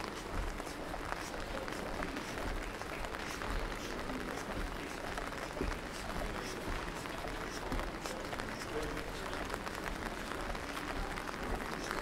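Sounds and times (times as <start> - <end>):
faint voices: 0.0 - 12.0
steady rain falling: 0.0 - 12.0.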